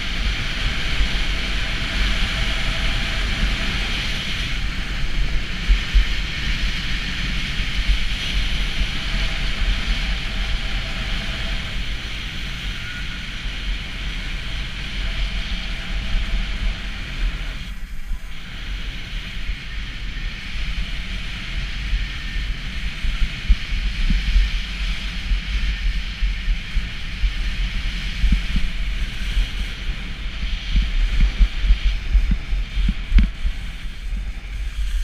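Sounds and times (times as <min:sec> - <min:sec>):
skis hissing over packed snow: 0:00.0 - 0:35.0
wind rumble on microphone: 0:00.0 - 0:35.0.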